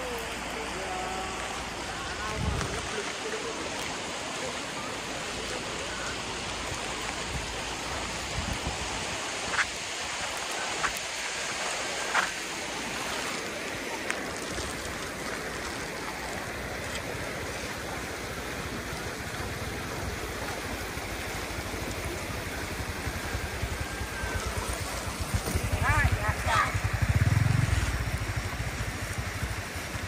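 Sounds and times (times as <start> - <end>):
rushing stream water: 0.0 - 30.0.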